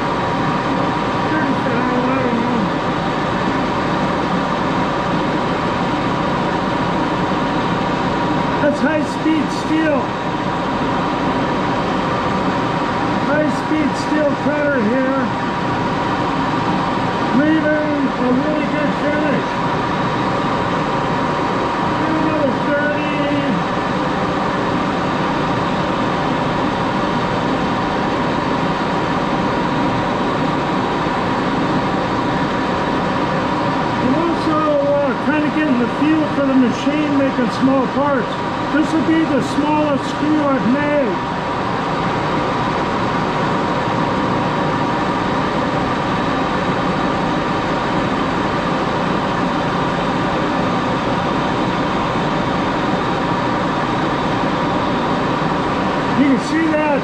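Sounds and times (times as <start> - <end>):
lathe running: 0.0 - 57.0
steady machine whine: 0.0 - 57.0.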